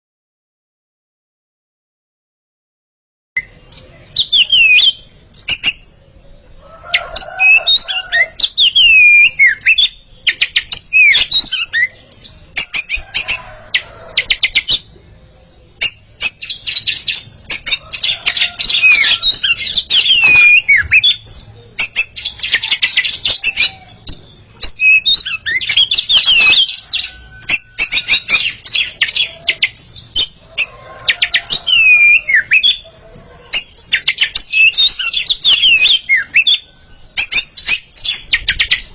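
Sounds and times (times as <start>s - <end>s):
songbirds singing whistles and trills: 3.4s - 38.9s.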